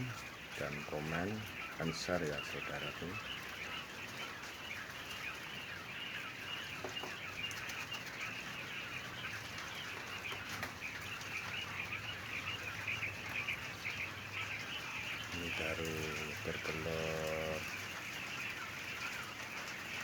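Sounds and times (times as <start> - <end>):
flock of quail chattering: 0.0 - 20.0.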